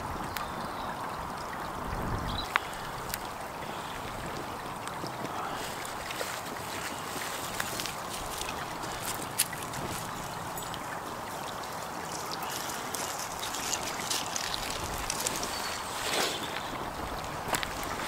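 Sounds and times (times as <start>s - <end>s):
stream flowing: 0.0s - 18.0s.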